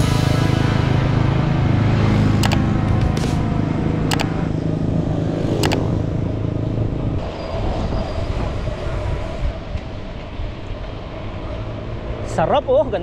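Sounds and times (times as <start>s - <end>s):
vehicle passing close by: 0.0s - 13.0s
wind and road noise: 0.0s - 13.0s.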